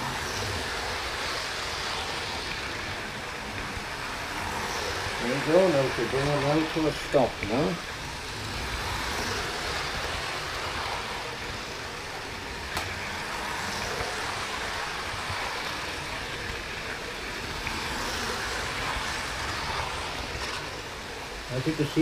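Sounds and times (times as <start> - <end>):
model train wheels rolling on rails: 0.0 - 22.0.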